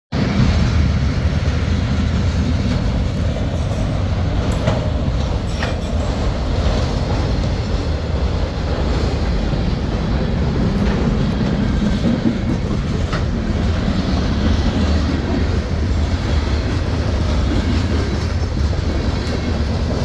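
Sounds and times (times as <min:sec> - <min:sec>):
freight train passing: 0:00.1 - 0:20.0.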